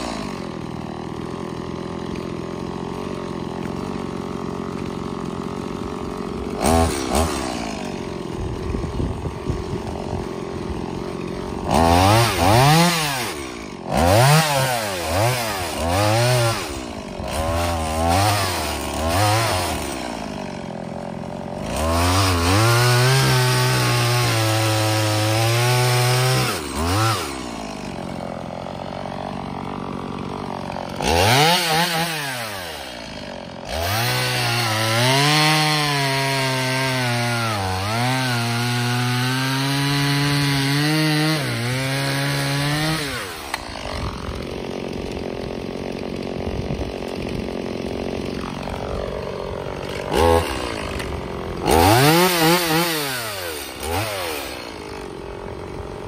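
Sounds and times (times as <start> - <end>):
chainsaw cutting wood: 0.0 - 56.0
chainsaw idling and revving: 0.0 - 56.0.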